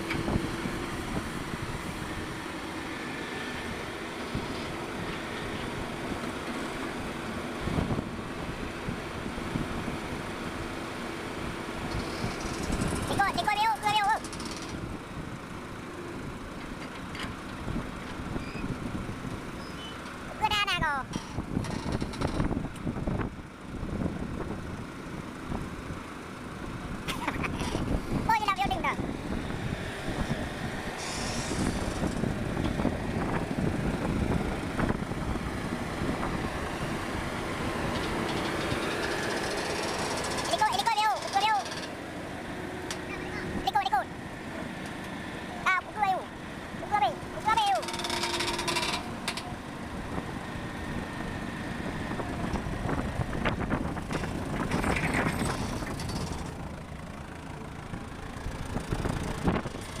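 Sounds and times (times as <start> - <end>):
diesel earthmoving machinery running: 0.0 - 60.0.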